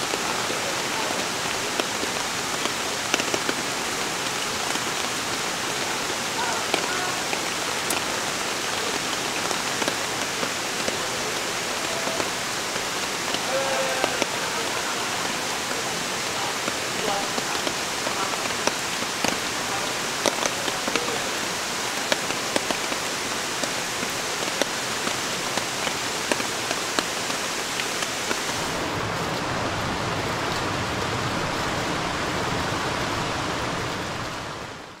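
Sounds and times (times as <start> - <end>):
rain splashing on stream: 0.0 - 35.0.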